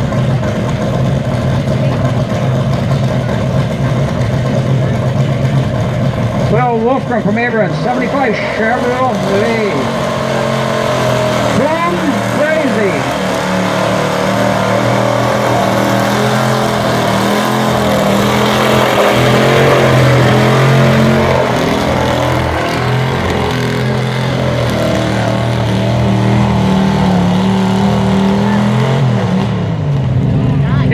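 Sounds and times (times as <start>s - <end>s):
truck engine at high revs: 0.0s - 30.9s.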